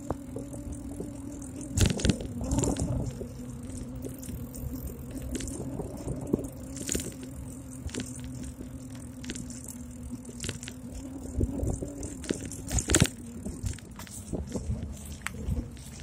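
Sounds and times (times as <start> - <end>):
bike mount clicks and rattles: 0.0 - 15.9
low road rumble: 0.0 - 16.0
steady low hum: 0.0 - 16.0.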